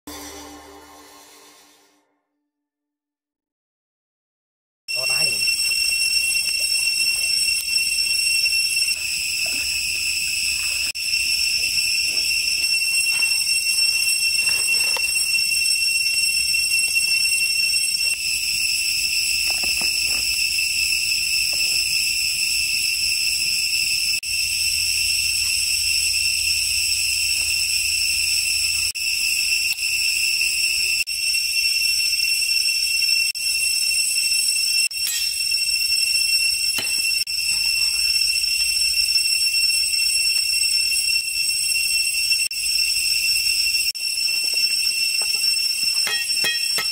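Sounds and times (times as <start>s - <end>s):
high-pitched insect chorus: 4.9s - 46.9s.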